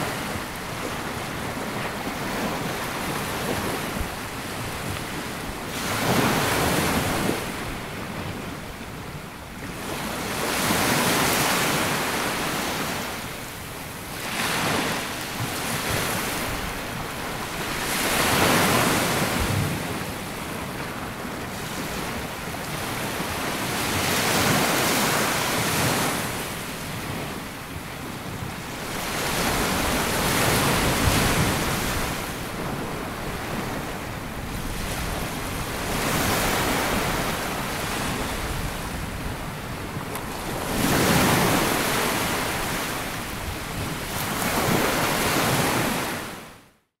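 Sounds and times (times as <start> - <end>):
sea waves breaking on beach: 0.0 - 46.6.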